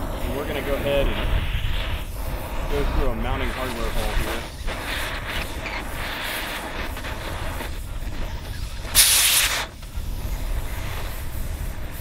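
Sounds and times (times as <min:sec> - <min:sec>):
cutting torch hissing: 0:00.0 - 0:12.0.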